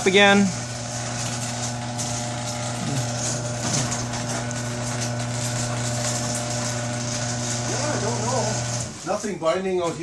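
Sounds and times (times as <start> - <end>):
garage door opener motor hum: 0.0 - 10.0
garage door creaks: 0.7 - 9.1.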